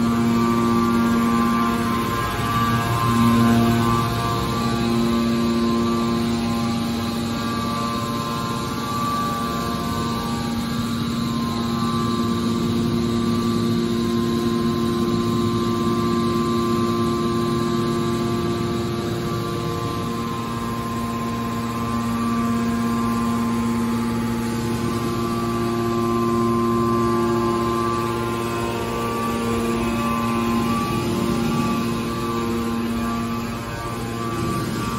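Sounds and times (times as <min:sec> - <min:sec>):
baler press motor and pump humming: 0:00.0 - 0:34.9.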